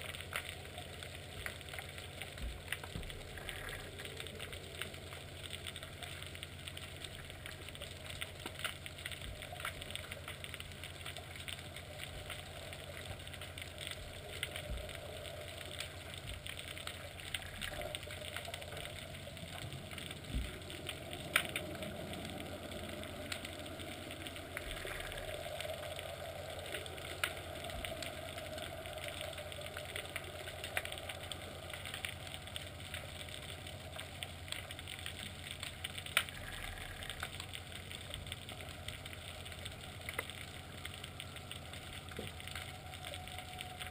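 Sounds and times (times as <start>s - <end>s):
small clicks and ticks: 0.0s - 43.9s
steady low underwater hum: 0.0s - 43.9s.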